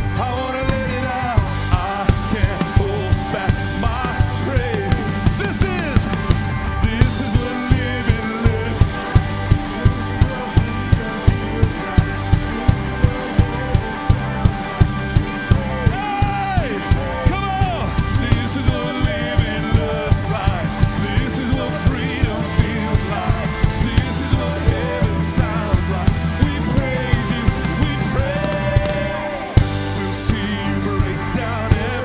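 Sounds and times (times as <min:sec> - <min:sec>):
band playing upbeat rock song: 0:00.0 - 0:32.0
drum kit beat: 0:00.0 - 0:32.0
people singing: 0:00.0 - 0:32.0.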